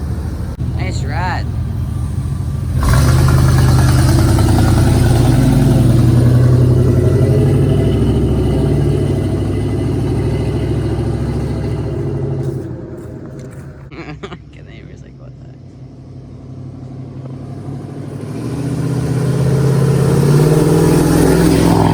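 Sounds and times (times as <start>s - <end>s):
loud truck engine exhaust: 0.0s - 21.9s.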